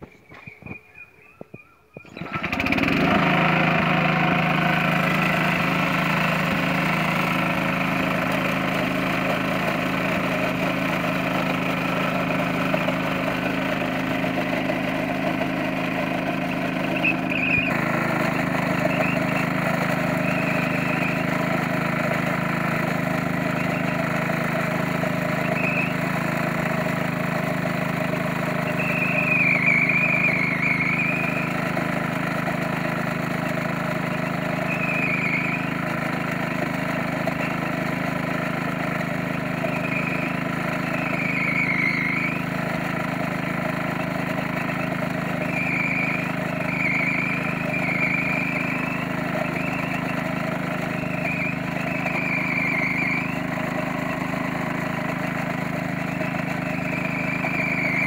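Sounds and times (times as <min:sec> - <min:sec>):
small petrol engine running: 0:02.0 - 0:58.0.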